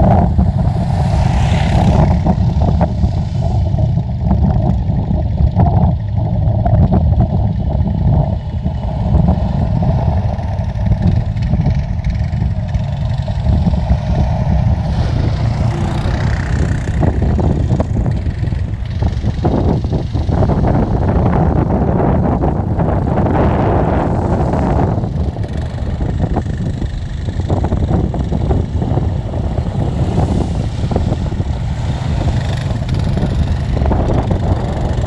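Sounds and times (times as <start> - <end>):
quad bike engine passing: 0.0 - 6.2, 6.8 - 35.0.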